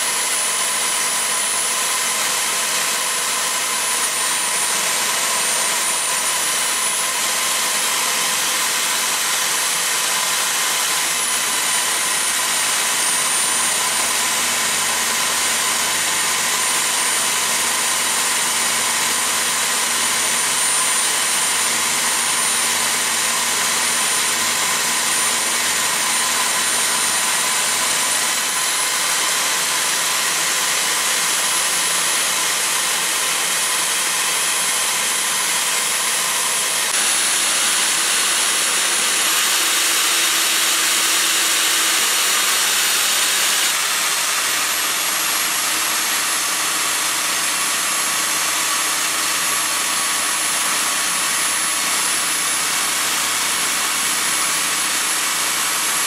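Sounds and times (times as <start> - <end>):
electric drill motor whine: 0.0 - 56.0.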